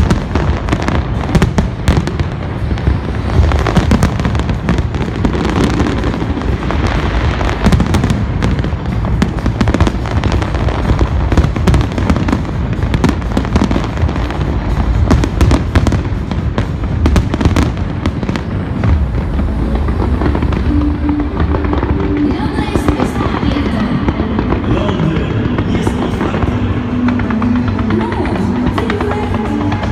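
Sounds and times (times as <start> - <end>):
fireworks bangs and crackles: 0.0 - 29.9
low rumble: 0.0 - 29.9
music playing: 0.0 - 29.9.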